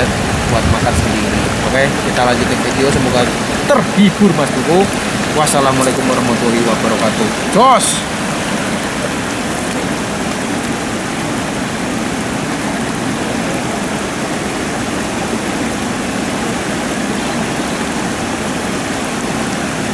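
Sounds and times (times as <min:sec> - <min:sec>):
river water rushing over weir: 0:00.0 - 0:19.9.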